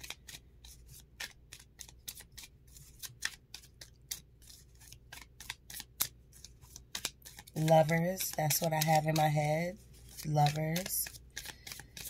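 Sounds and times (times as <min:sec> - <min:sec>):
cards being shuffled by hand: 0:00.0 - 0:12.0.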